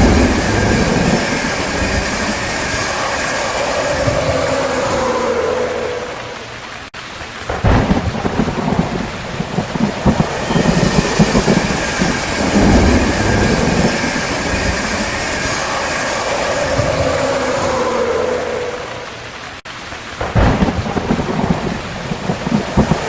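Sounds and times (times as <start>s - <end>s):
steady rain: 0.0s - 23.0s
thunder rumbling: 0.0s - 23.0s.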